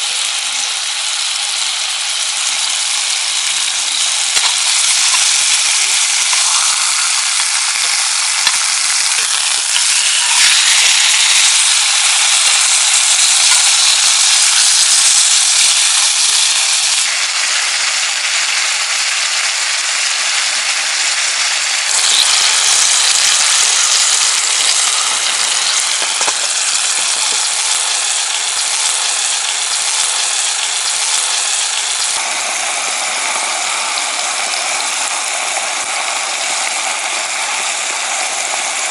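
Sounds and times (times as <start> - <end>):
meat sizzling over a fire: 0.0 - 38.9.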